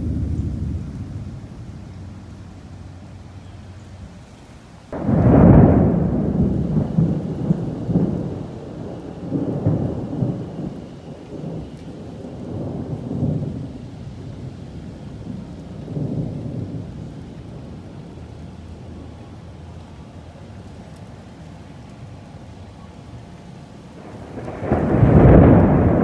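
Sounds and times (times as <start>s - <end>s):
thunder clap and rumble: 0.0s - 4.2s, 4.9s - 23.0s, 23.9s - 26.0s.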